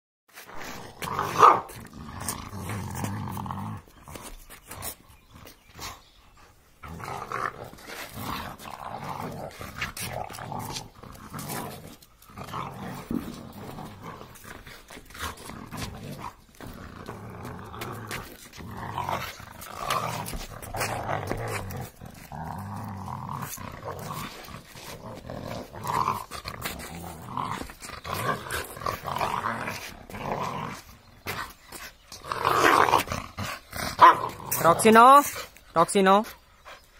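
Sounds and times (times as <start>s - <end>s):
dog play-growling: 0.4s - 35.6s.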